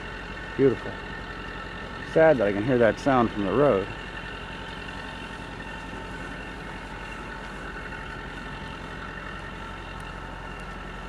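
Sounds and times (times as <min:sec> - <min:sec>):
compressor station drone: 0:00.0 - 0:11.0.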